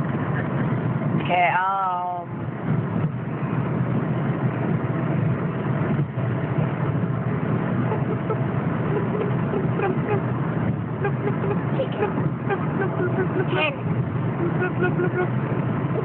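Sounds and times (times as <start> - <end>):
car road and engine noise: 0.0 - 16.0
faint steady hum: 0.0 - 16.0.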